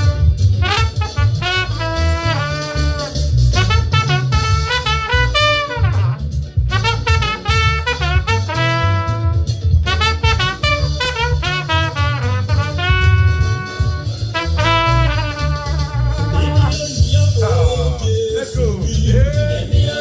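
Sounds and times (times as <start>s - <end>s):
trumpet melody: 0.0s - 17.0s
backing track with heavy bass: 0.0s - 20.0s.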